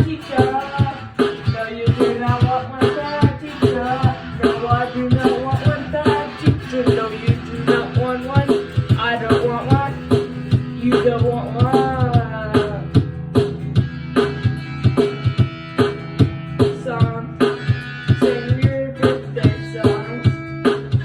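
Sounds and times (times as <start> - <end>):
held bass notes: 0.0 - 21.0
plucked strings: 0.0 - 21.0
steady drum beat: 0.0 - 21.0.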